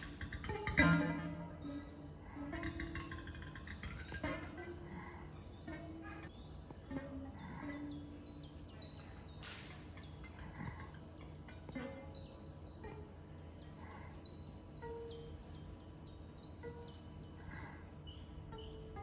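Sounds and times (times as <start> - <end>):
faint low hum: 0.0 - 19.0
small birds chirping: 0.0 - 19.0.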